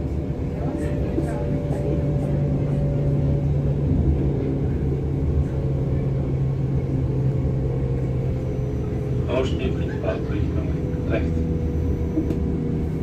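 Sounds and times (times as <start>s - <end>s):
train interior rumble: 0.0s - 13.0s.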